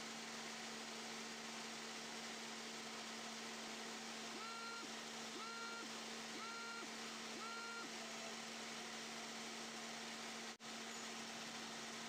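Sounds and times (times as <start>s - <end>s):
low electrical hum: 0.0s - 12.0s
steady hiss: 0.0s - 12.0s.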